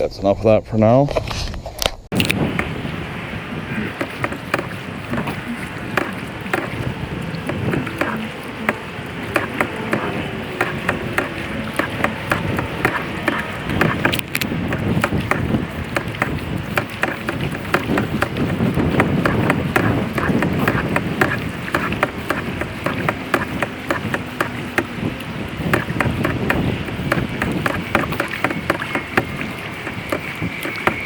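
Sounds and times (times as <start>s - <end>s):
paddle knocking on hull: 2.1s - 31.0s
paddle splashes and drips: 2.1s - 31.0s
water rushing: 2.1s - 31.0s.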